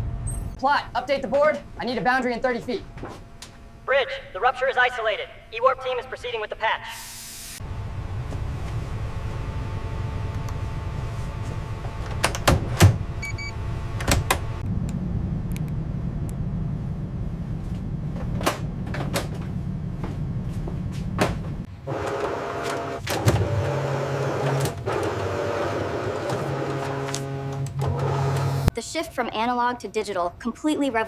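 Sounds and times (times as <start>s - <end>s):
machinery hum: 0.0s - 28.7s.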